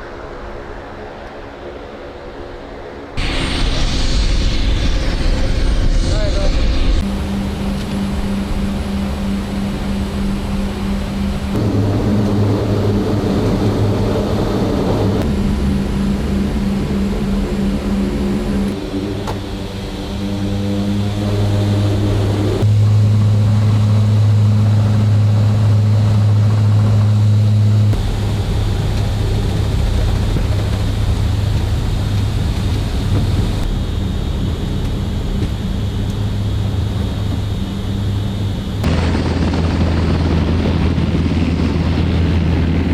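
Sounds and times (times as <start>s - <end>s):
turboprop engines droning: 0.0s - 42.9s.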